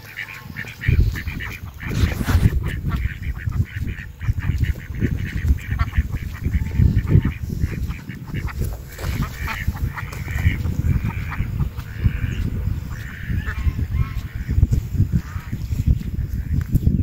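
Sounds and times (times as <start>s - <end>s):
waterfowl honking: 0.0s - 15.6s
low rumble: 0.9s - 16.6s.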